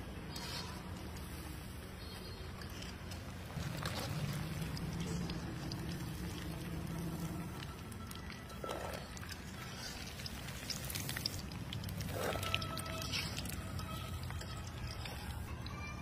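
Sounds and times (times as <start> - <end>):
banana pieces deep-frying in oil: 0.0 - 16.0
wire skimmer stirring: 2.5 - 15.5
low hum: 2.6 - 15.6.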